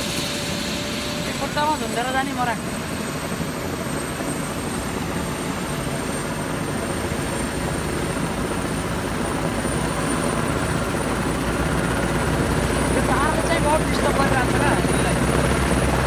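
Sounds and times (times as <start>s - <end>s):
helicopter rotor running: 0.0s - 16.0s
high turbine whine: 0.0s - 16.0s.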